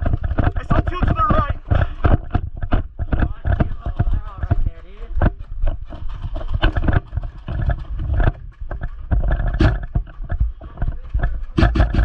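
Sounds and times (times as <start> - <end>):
footsteps: 0.0 - 12.0
gear jostling the microphone: 0.0 - 12.0.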